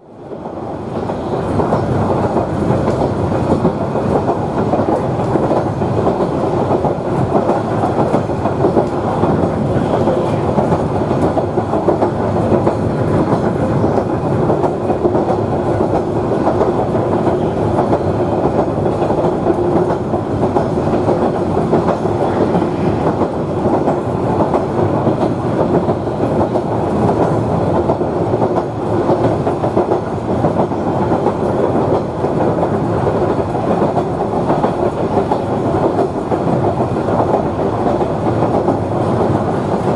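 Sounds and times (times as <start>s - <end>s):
train engine drone: 0.0s - 39.9s
wheels rumbling on rail: 0.0s - 39.9s.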